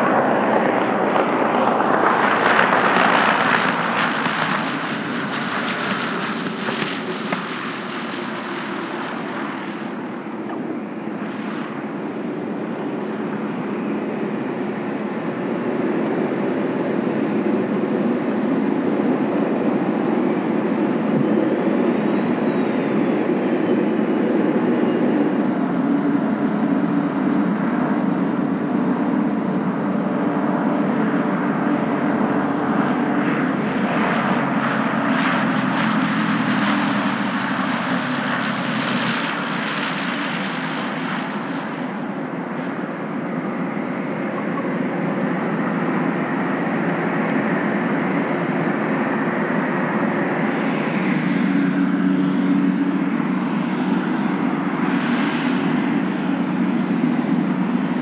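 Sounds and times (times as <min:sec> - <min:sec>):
propeller plane engine droning: 0:00.0 - 0:58.0
small plane engine running: 0:00.0 - 0:58.0.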